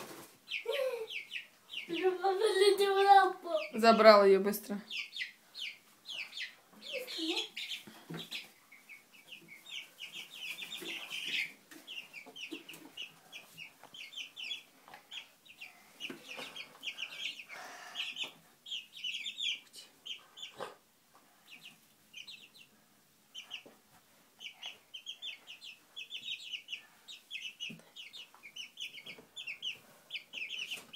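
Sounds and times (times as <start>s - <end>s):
chicks peeping: 0.0s - 30.9s.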